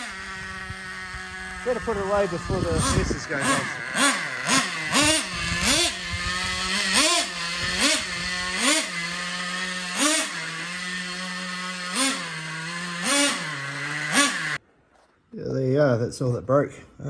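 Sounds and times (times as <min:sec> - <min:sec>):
small engine revving: 0:00.0 - 0:14.6.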